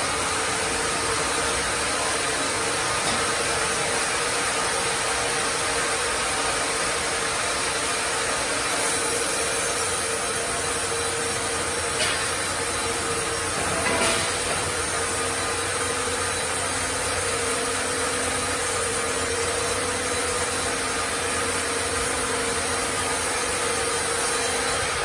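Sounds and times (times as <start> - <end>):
sawmill band saws running: 0.0 - 25.0.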